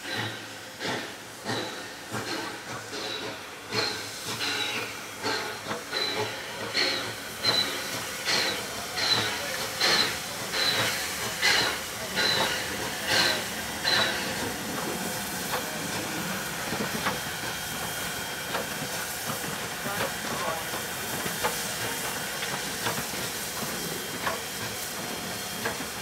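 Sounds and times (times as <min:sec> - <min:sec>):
steady steam hiss: 0:00.0 - 0:26.0
steam locomotive chuffing: 0:00.0 - 0:26.0.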